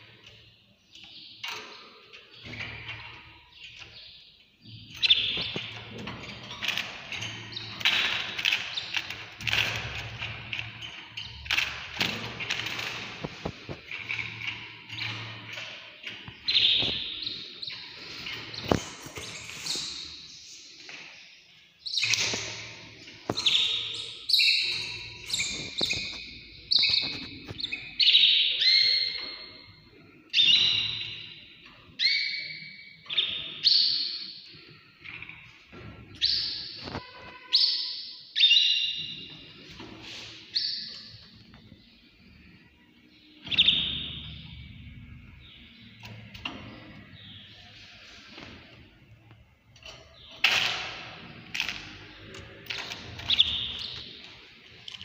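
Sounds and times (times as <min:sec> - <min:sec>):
caged birds chirping: 0:00.0 - 0:55.0.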